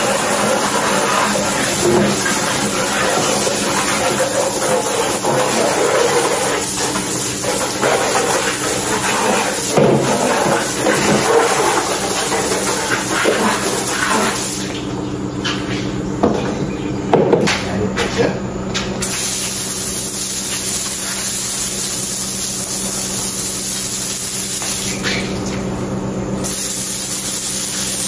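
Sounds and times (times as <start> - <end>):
hose water splashing on concrete: 0.0 - 14.8, 19.0 - 25.6, 26.4 - 28.0.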